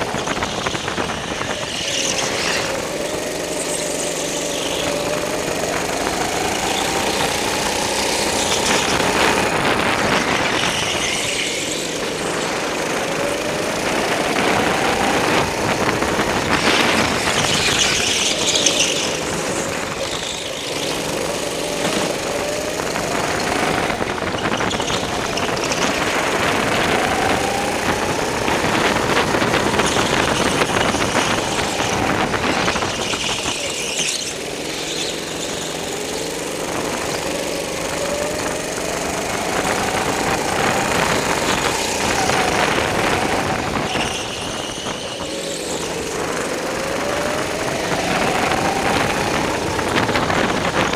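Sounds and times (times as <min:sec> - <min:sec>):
go-kart engine revving: 0:00.0 - 0:50.9
tire squeal: 0:00.0 - 0:50.9.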